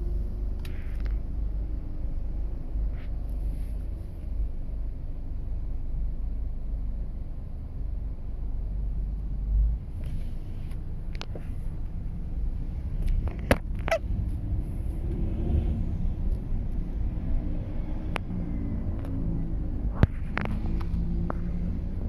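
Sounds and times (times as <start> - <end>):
road traffic rumbling: 0.0 - 22.0.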